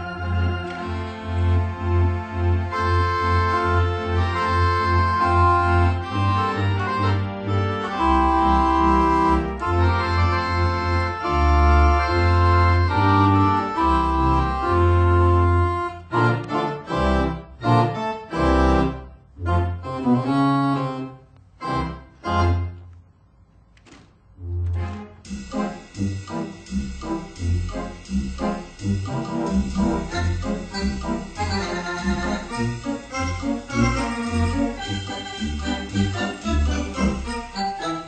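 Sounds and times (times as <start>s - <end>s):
theatre pipe organ playing chords: 0.0s - 23.0s, 24.4s - 38.0s.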